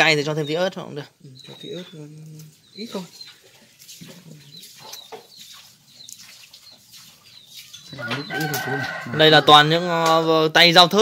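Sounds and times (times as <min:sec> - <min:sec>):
chickens clucking: 0:00.0 - 0:10.4.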